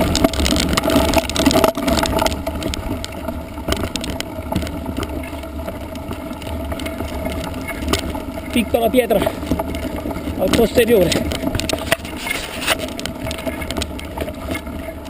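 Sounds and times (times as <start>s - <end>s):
bike rattling: 0.0s - 15.0s
tyres crunching on gravel: 0.0s - 15.0s.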